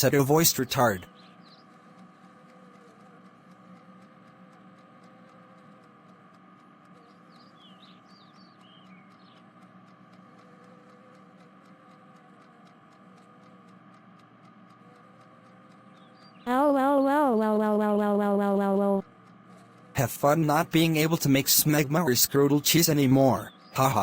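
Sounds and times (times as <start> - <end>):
faint background hum and hiss: 0.0 - 24.0.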